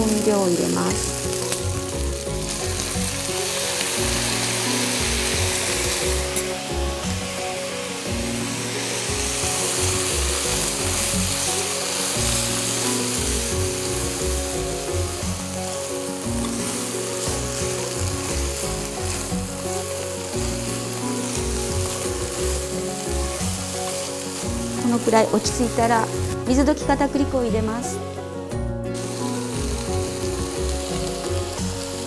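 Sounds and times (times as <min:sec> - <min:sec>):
stir-fry sizzling in a frying pan: 0:00.0 - 0:27.9, 0:28.9 - 0:32.0
background music: 0:00.0 - 0:32.0.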